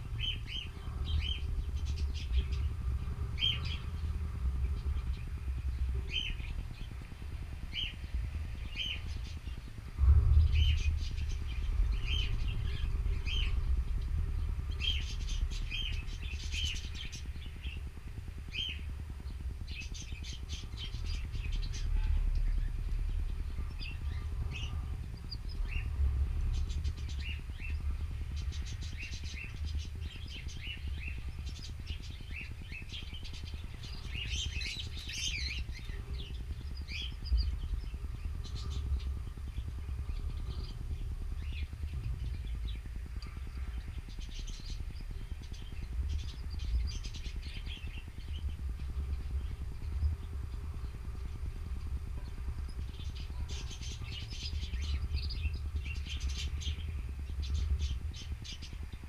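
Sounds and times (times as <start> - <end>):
canaries chirping: 0.0 - 51.0, 51.8 - 59.0
steady low rumble: 0.0 - 59.0.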